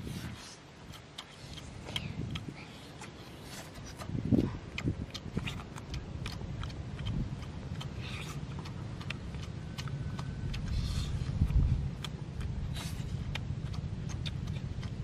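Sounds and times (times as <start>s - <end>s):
chewing and lip-smacking: 0.0s - 15.0s
steady low rumble: 0.0s - 15.0s.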